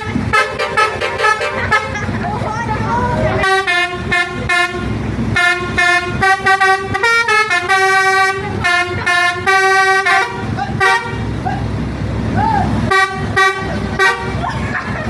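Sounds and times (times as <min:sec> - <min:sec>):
musical bus air horn tune: 0:00.0 - 0:02.2, 0:03.2 - 0:11.4, 0:12.8 - 0:14.6.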